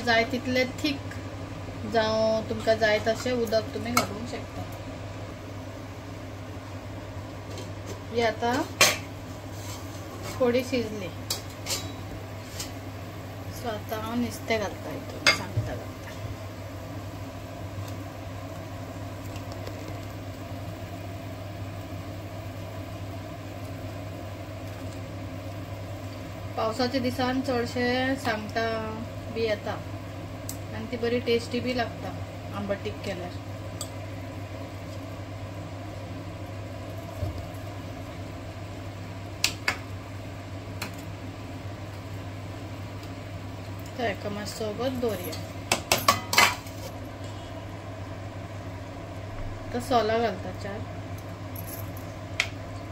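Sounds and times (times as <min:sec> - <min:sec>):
curry boiling in a pot: 0:00.0 - 0:13.6, 0:14.3 - 0:44.8
steady low hum: 0:00.0 - 0:52.9.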